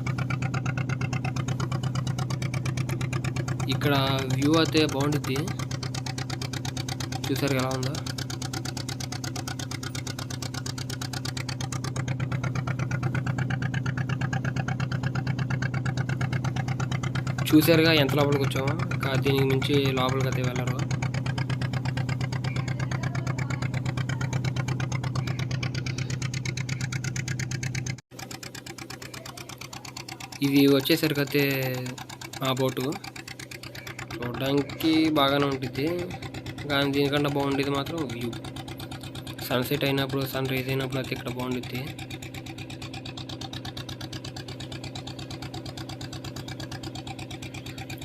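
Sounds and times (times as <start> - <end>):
boat engine chugging: 0.0 - 48.0.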